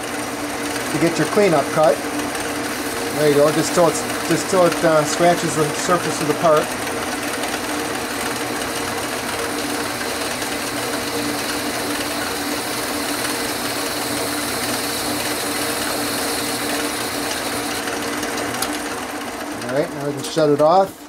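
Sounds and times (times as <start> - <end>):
metal lathe running: 0.0 - 21.0.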